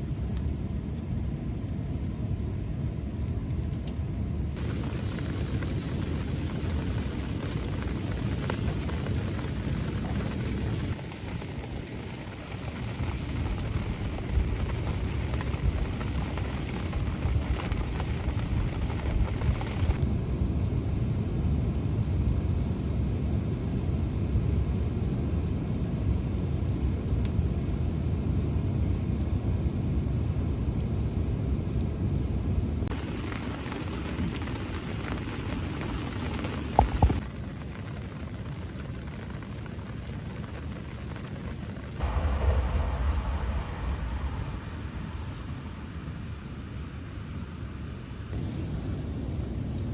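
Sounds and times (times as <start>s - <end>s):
rain falling: 0.0s - 20.0s, 25.5s - 49.2s.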